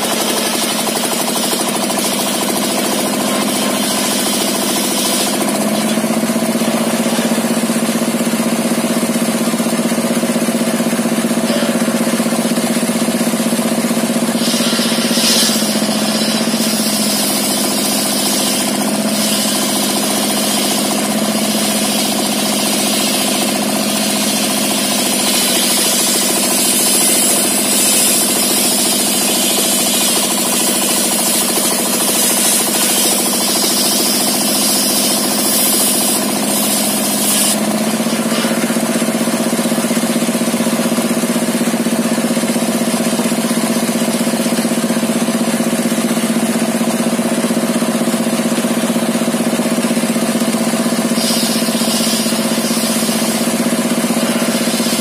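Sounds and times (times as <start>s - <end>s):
circular saw cutting wood: 0.0s - 40.8s, 49.8s - 55.0s
saw blade spinning freely: 0.0s - 41.0s, 49.7s - 55.0s
diesel engine running: 0.0s - 55.0s.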